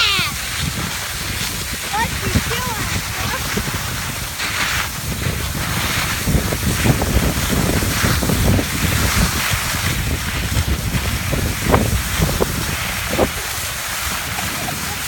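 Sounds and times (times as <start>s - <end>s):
skis hissing over packed snow: 0.0s - 15.0s
wind buffeting microphone: 0.0s - 15.0s.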